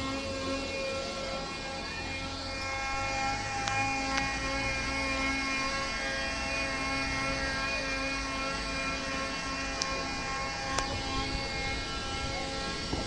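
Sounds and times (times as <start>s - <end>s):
hydraulic whine: 0.0s - 13.0s.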